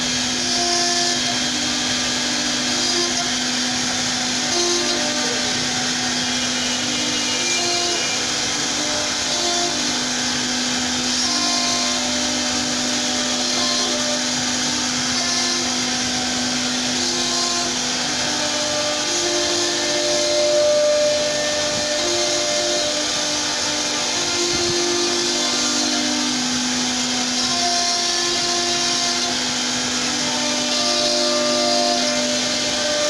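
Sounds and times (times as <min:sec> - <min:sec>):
router motor whine: 0:00.0 - 0:33.0.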